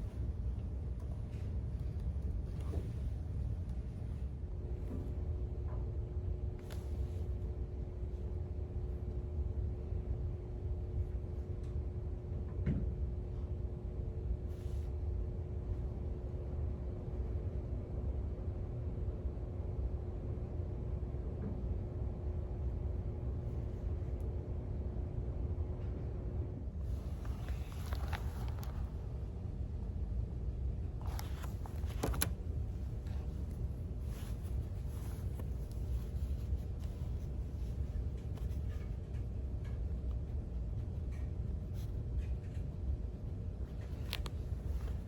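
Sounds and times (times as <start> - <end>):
faint constant hum: 0.0 - 45.0
steady low rumble: 0.0 - 45.0.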